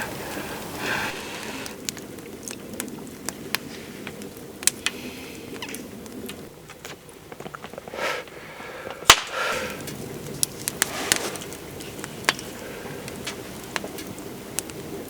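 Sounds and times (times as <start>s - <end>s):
sharp pops from fire: 0.0s - 15.0s
wood fire crackling: 0.0s - 15.0s.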